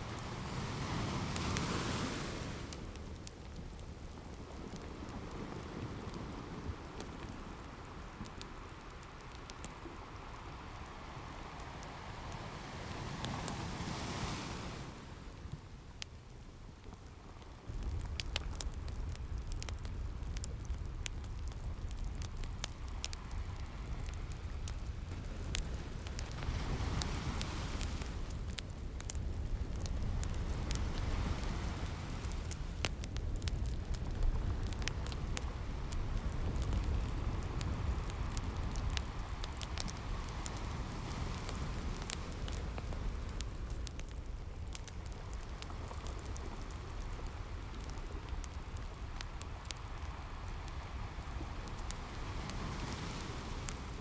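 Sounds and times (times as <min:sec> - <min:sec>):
fireplace crackling and popping: 0:00.0 - 0:54.0
ocean surf rumble: 0:00.0 - 0:54.0.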